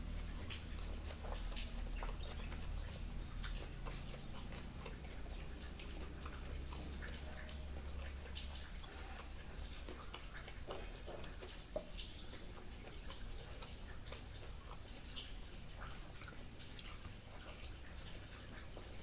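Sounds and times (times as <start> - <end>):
chewing with wet mouth clicks: 0.0 - 19.0.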